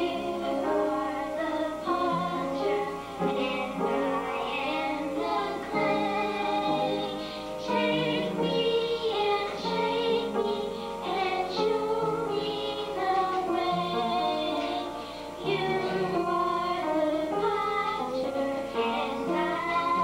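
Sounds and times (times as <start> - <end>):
girls singing: 0.0 - 20.0.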